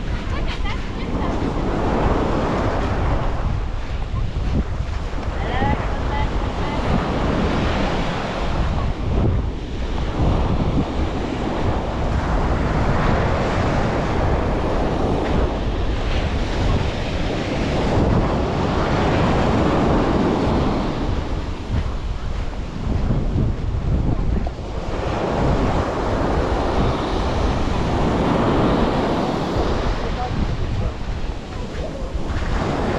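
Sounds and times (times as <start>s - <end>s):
surf washing onto beach: 0.0s - 32.9s
wind buffeting microphone: 0.0s - 32.9s.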